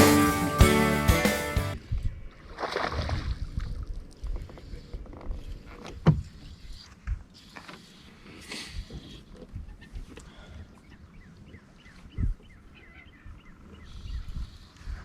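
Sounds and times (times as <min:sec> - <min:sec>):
water lapping against boat hull: 0:01.9 - 0:15.0.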